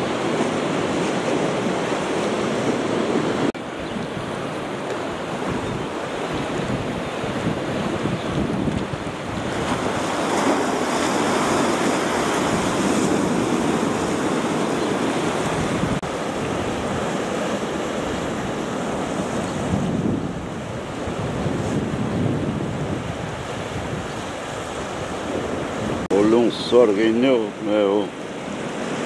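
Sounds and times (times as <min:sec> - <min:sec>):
wind buffeting microphone: 0:00.0 - 0:26.1
surf washing against rocks: 0:00.0 - 0:29.0.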